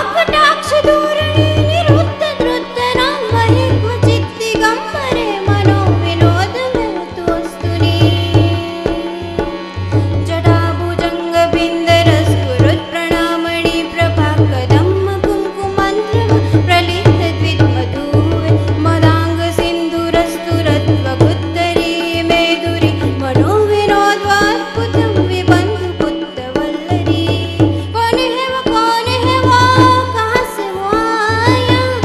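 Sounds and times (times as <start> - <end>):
harmonium: 0.0 - 32.0
tabla: 0.0 - 32.0
woman singing: 0.0 - 32.0.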